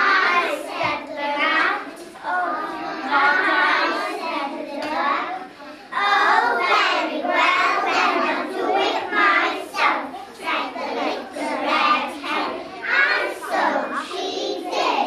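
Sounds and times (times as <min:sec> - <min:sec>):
children chanting in unison: 0:00.0 - 0:15.0.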